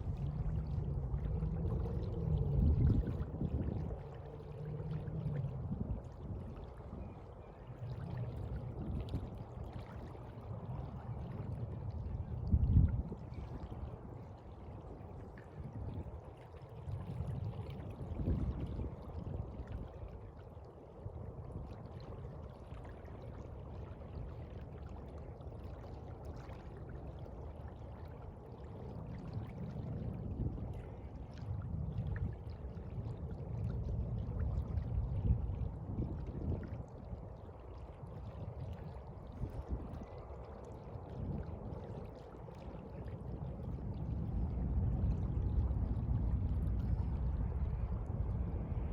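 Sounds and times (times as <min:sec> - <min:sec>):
sea water lapping: 0:00.0 - 0:48.9.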